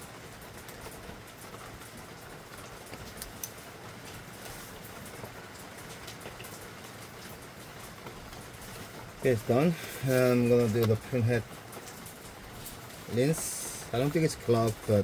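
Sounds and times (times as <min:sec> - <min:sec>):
light crackling hiss: 0:00.0 - 0:15.0.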